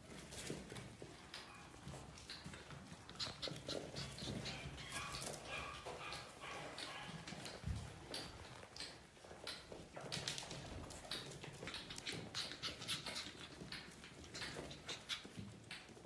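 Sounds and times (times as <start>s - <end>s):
puppies scratching and pattering: 0.0s - 16.0s.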